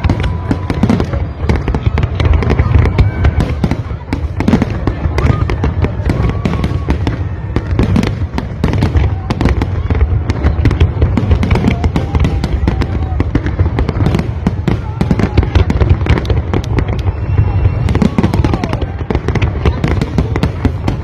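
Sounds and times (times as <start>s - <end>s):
fireworks popping and crackling: 0.0s - 21.0s.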